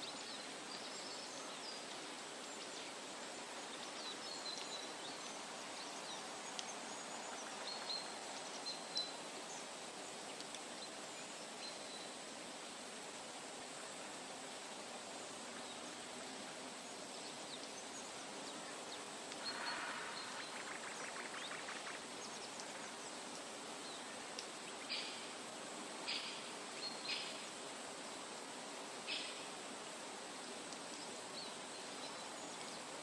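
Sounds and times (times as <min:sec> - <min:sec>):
soft background hiss: 0:00.0 - 0:33.0.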